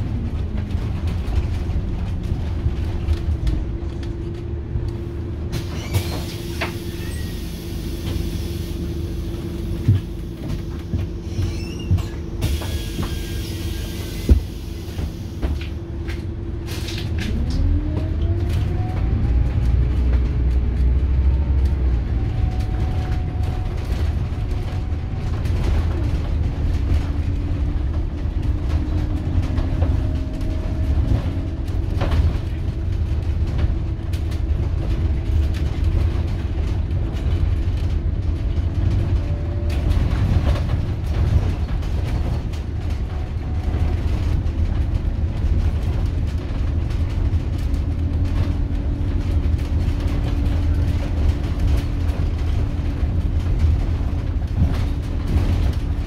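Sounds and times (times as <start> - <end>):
bus diesel engine rumble: 0.0 - 56.0
engine and gearbox whine: 0.0 - 56.0
rattles from bus body and seats: 0.0 - 56.0.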